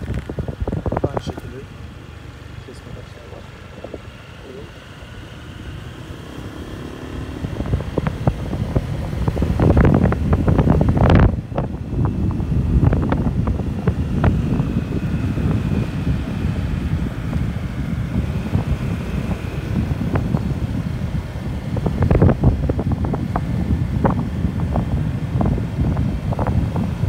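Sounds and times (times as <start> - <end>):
motorcycle engine rumble: 0.0 - 27.0
wind buffeting microphone: 0.0 - 27.0.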